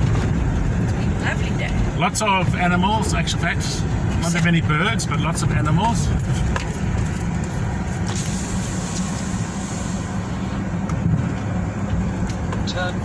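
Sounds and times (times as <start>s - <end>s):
road and cabin noise: 0.0s - 13.0s
vehicle engine running: 0.0s - 13.0s.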